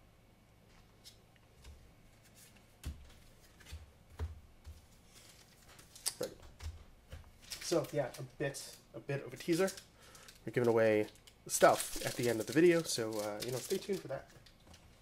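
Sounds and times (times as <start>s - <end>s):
cards tapping and rustling: 1.6s - 8.8s, 9.4s - 14.9s.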